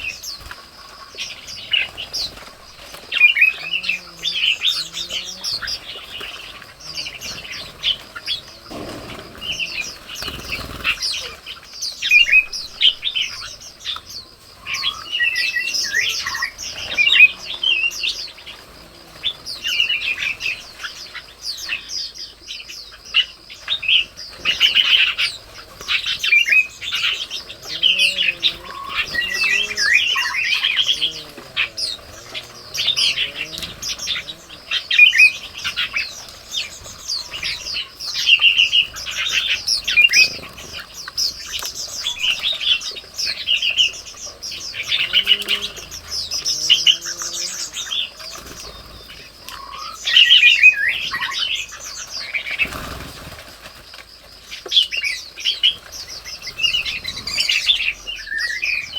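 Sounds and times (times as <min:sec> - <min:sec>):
bulbuls chirping: 0:00.0 - 0:58.9.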